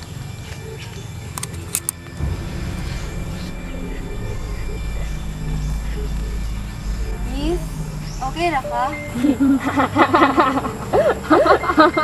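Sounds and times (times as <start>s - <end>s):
droning background music: 0.0s - 12.0s.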